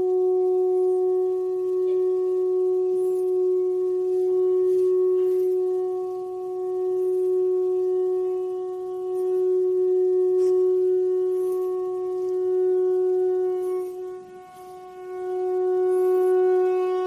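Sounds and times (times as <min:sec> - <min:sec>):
musical drone on one pitch: 0:00.0 - 0:17.0.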